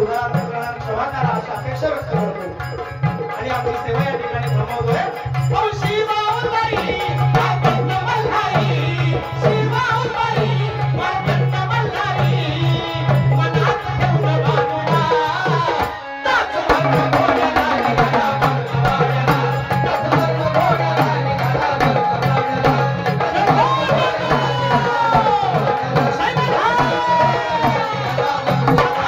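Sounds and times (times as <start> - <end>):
hand drums fast rhythm: 0.0 - 16.0, 16.6 - 29.0.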